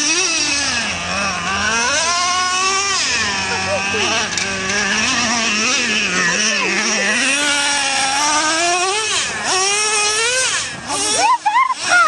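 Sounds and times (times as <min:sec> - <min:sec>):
nitro engine running hard: 0:00.0 - 0:12.0.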